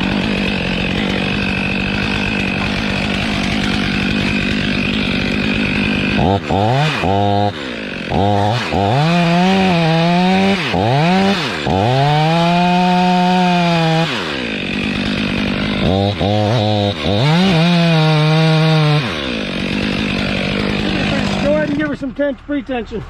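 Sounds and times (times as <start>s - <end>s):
chainsaw cutting wood: 0.0s - 22.2s.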